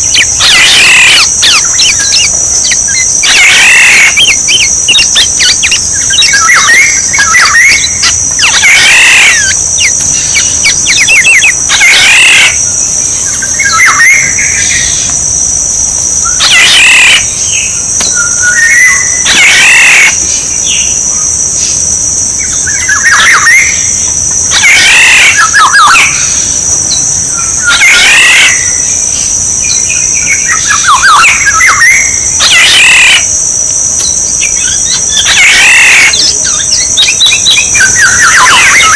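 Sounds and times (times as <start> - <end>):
oriole calls: 0.0 - 15.2, 16.2 - 21.0, 22.4 - 29.1, 29.8 - 33.4, 34.0 - 38.9
steady high hiss: 0.0 - 38.9.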